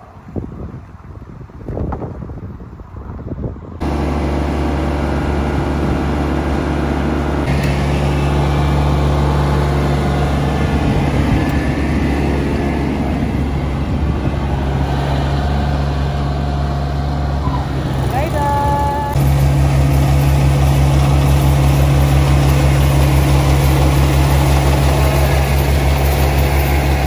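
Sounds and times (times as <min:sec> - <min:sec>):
combine harvester engine drone: 0:03.8 - 0:27.0.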